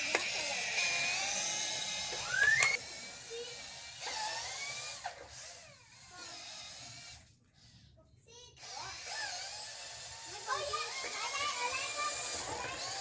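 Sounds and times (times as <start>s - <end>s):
small electric motor whining: 0.0s - 7.8s, 8.6s - 13.0s.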